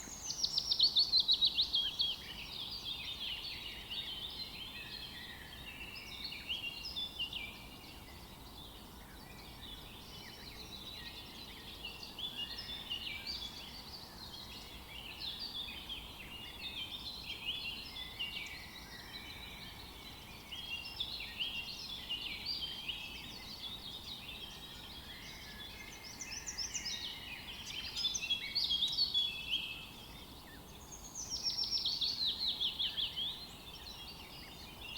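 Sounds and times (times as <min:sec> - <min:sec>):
songbirds singing and chirping: 0:00.0 - 0:34.9.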